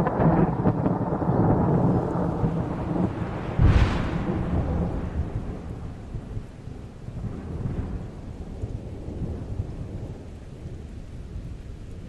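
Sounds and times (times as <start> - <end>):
faint rain-like hiss: 0.0 - 12.0
rolling thunder rumble: 0.0 - 12.0.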